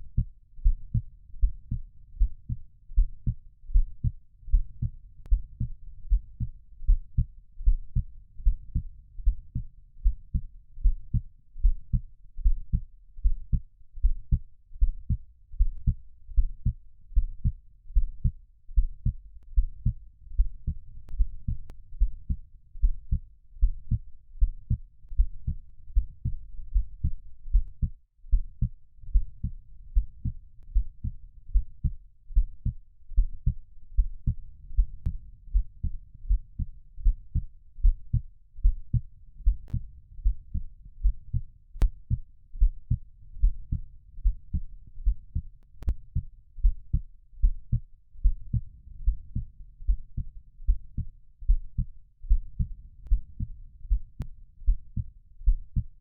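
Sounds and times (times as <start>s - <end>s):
faint low heart murmur: 0.0s - 56.0s
heartbeat lub-dub thumps: 0.0s - 56.0s.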